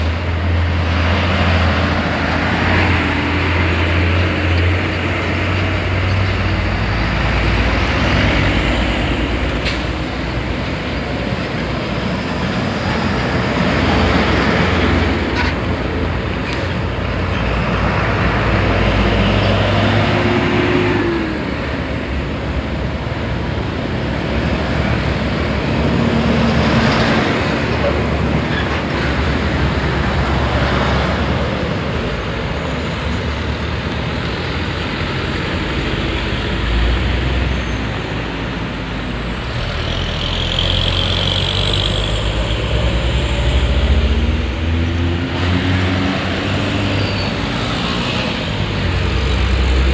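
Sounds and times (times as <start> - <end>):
truck diesel engines running: 0.0 - 49.9.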